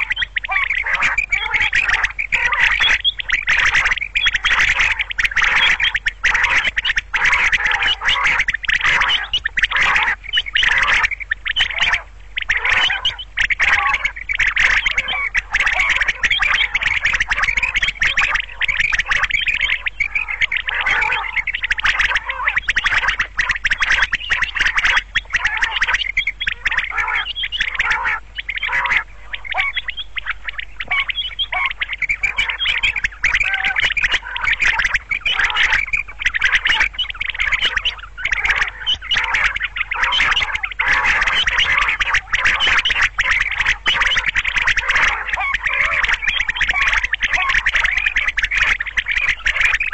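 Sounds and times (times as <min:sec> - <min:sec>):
quail calling: 0:00.0 - 0:49.9.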